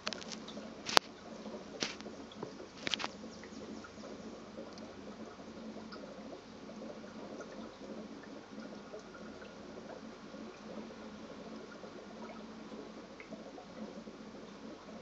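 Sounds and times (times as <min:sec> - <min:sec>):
aquarium water trickling and bubbling: 0:00.0 - 0:15.0
small pops and drips: 0:00.0 - 0:15.0.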